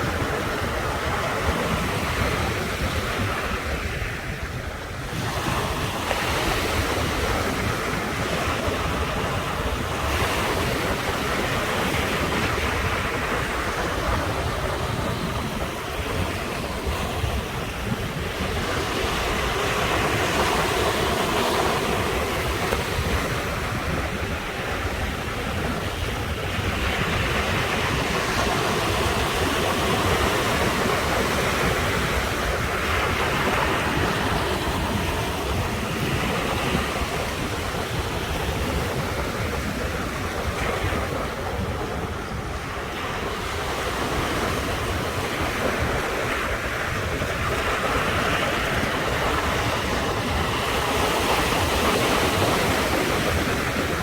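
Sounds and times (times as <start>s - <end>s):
ocean surf washing onto shore: 0.0s - 54.0s
wind rumble on microphone: 0.0s - 54.0s.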